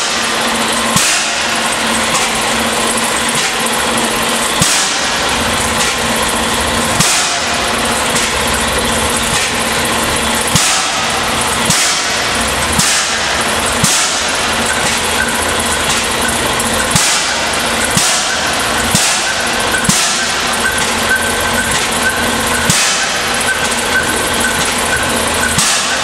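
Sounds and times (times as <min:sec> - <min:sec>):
stationary engine thumping: 0:00.0 - 0:26.0.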